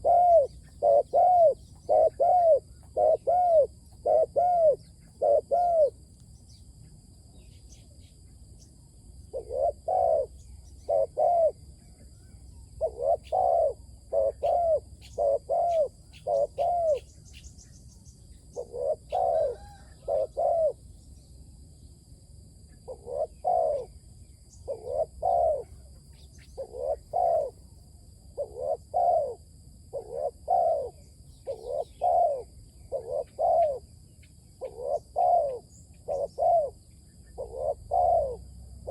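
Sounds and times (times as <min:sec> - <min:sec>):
dove cooing: 0:00.0 - 0:06.0, 0:09.3 - 0:17.4, 0:18.5 - 0:20.9, 0:22.7 - 0:27.7, 0:28.3 - 0:33.9, 0:34.6 - 0:38.9.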